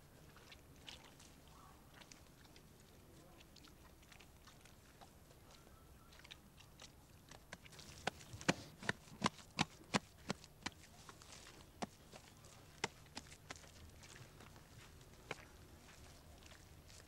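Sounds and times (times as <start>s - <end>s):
wet clay handling: 0.0s - 17.0s.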